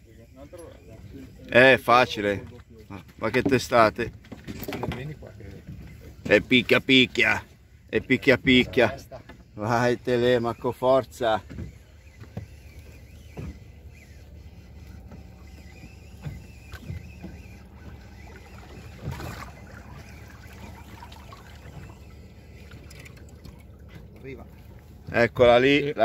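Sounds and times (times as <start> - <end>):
water sounds: 0.0 - 26.0
low hum: 5.2 - 26.0.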